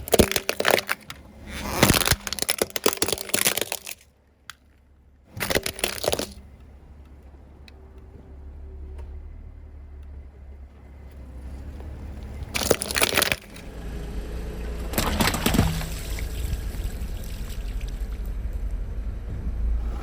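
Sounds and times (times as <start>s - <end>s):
objects crushed under tyres: 0.0s - 9.2s, 10.6s - 18.3s
car tyres rumbling: 0.0s - 20.0s.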